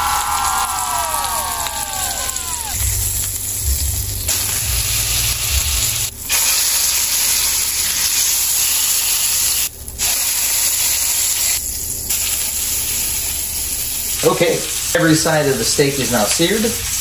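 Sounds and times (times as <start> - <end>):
steak sizzling in skillet: 0.1 - 17.0.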